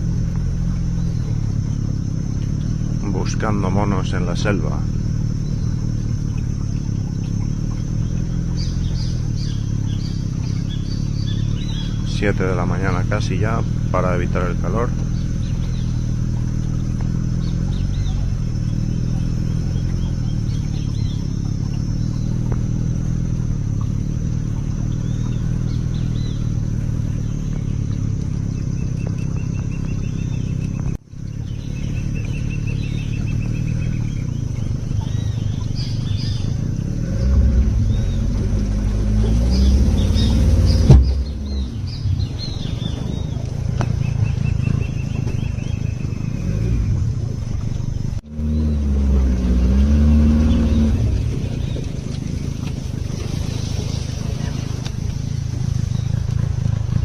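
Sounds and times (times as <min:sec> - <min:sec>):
birds calling and trilling: 0:00.0 - 0:57.0
boat motor running: 0:00.0 - 0:57.0.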